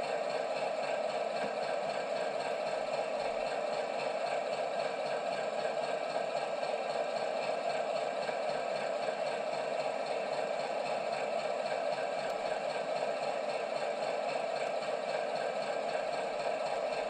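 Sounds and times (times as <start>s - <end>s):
model locomotive running: 0.0s - 17.0s.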